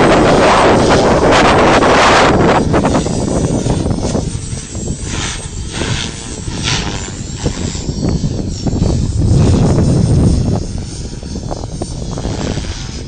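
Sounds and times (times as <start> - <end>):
model helicopter whine: 0.0 - 13.0
wind buffeting microphone: 0.0 - 13.0.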